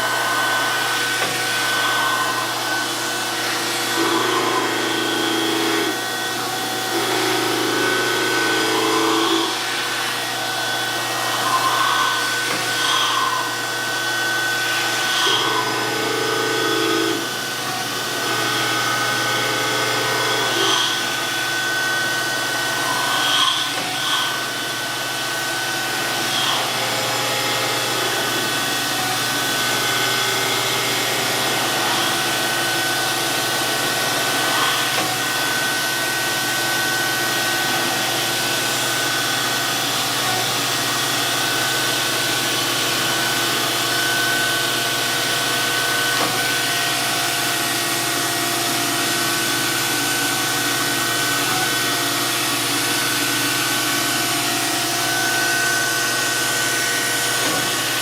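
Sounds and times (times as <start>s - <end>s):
surface grinder wheel whining: 0.0s - 58.0s.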